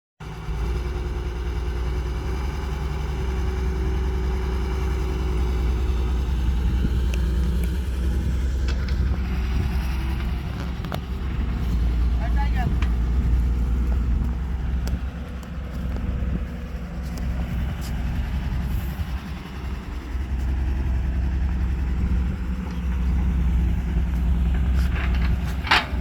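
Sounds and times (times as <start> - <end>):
diesel engine rumbling: 0.2 - 26.0.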